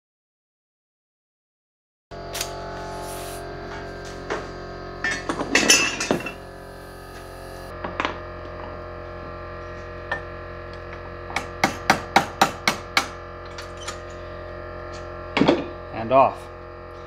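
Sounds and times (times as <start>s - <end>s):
steady low hum: 2.1s - 17.0s.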